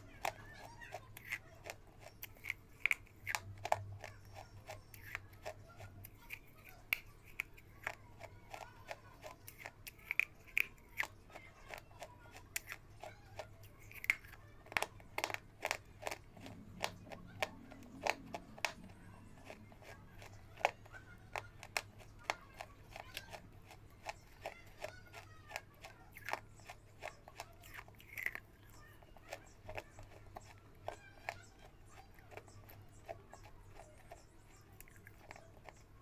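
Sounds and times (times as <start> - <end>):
person crunching and chewing: 0.0 - 36.0.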